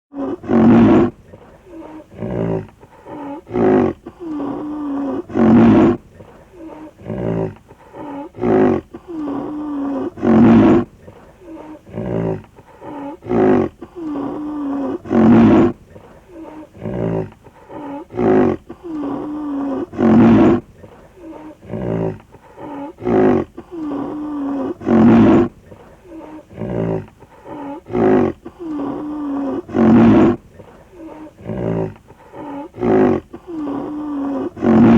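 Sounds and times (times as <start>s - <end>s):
rhinoceros grunting: 0.1s - 34.9s.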